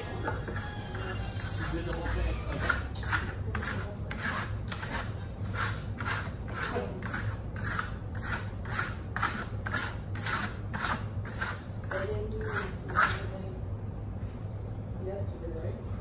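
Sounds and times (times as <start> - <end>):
trowel scraping plaster: 0.0 - 13.3.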